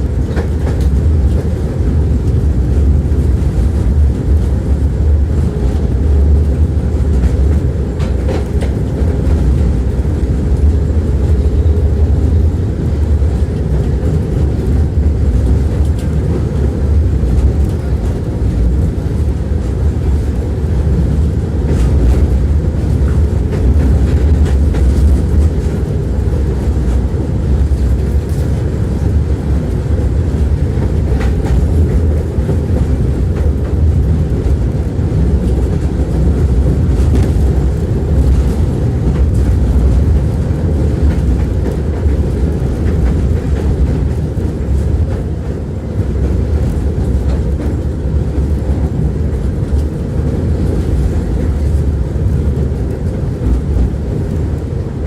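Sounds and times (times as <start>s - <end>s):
tram wheels rumbling: 0.0s - 55.0s.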